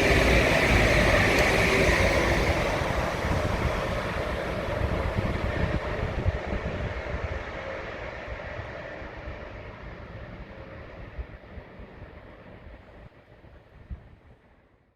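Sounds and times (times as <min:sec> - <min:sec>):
freight train rumbling past: 0:00.0 - 0:13.1.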